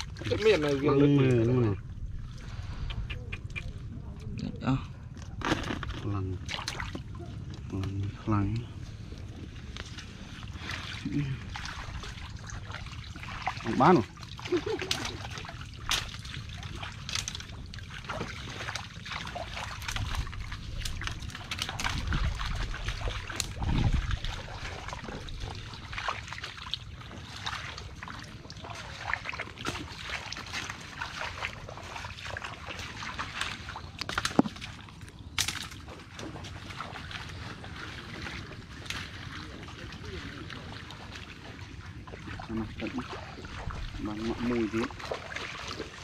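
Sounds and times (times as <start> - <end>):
footsteps wading through water: 0.0 - 46.0
water sloshing and splashing: 0.0 - 46.0.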